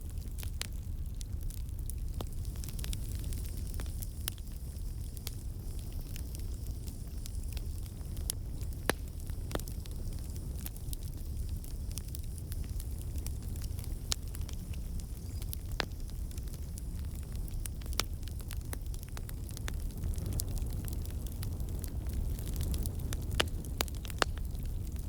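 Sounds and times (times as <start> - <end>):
campfire crackling and popping: 0.0 - 25.0
campfire low rumble: 0.0 - 25.0.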